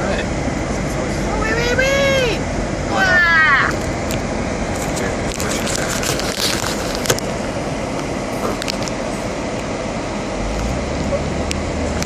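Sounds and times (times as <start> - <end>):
car ventilation fan rushing: 0.0 - 12.0
low rumble: 0.0 - 12.0.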